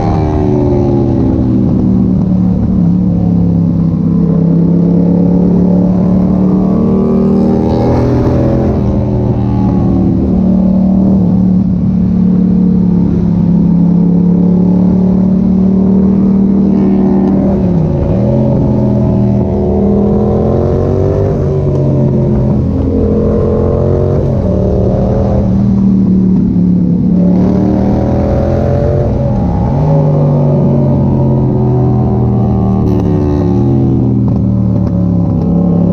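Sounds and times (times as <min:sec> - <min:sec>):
loud motorcycle engine revving: 0:00.0 - 0:35.9.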